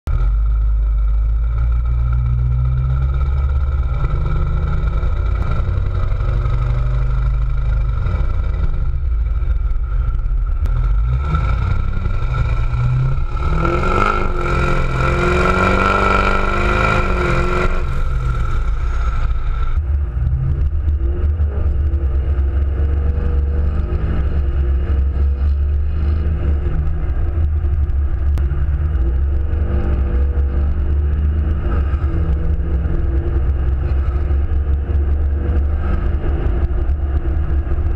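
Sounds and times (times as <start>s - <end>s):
diesel engine revving: 0.1s - 37.9s
low engine drone in cab: 0.1s - 37.9s.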